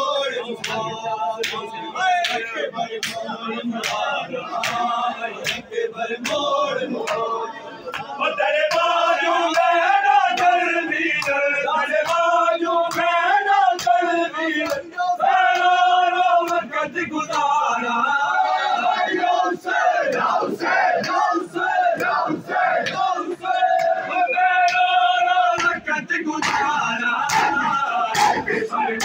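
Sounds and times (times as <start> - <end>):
crowd of men chanting: 0.0 - 29.0.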